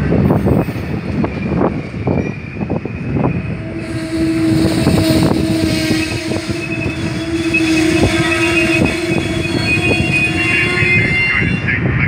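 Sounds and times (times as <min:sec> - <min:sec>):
high-pitched wheel squeals: 0:00.3 - 0:11.8
steady whine: 0:00.5 - 0:12.0.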